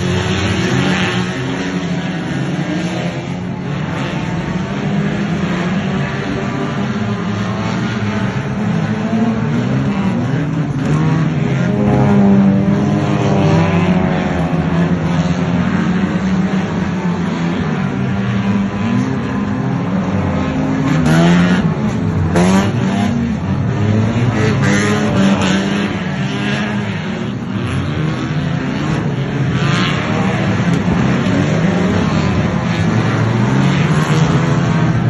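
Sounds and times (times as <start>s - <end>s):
racing car engines revving past: 0.0s - 35.0s.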